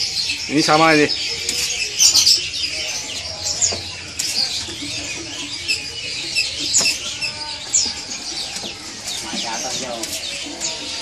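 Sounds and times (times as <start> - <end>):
songbirds chirping and calling: 0.0 - 11.0.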